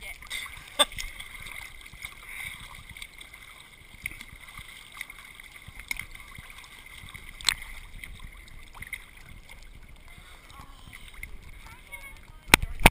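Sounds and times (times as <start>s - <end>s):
sharp water splashes: 0.0s - 12.9s
water lapping against camera: 0.0s - 12.9s.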